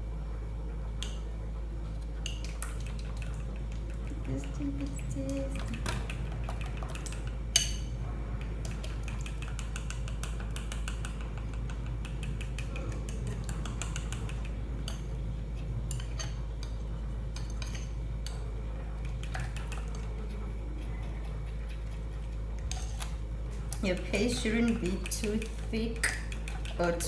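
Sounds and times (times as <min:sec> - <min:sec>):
utensil stirring batter: 0:02.0 - 0:27.0.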